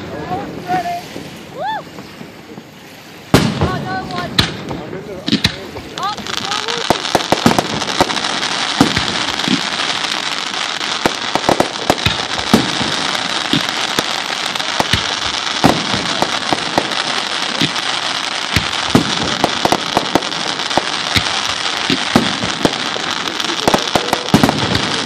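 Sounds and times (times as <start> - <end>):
fireworks bangs and pops: 0.0 - 25.0
fireworks crackling: 0.0 - 25.0.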